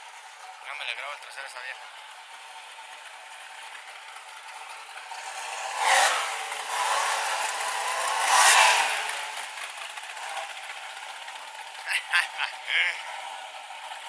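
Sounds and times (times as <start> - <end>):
car engine revving: 2.3 - 14.0.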